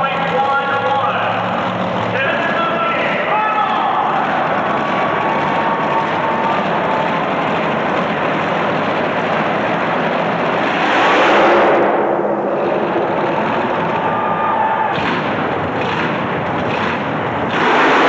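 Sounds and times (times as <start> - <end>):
truck engine at full throttle: 0.0 - 18.0.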